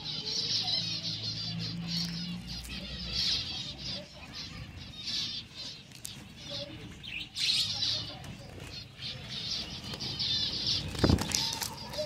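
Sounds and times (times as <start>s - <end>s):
finches twittering: 0.0s - 12.0s.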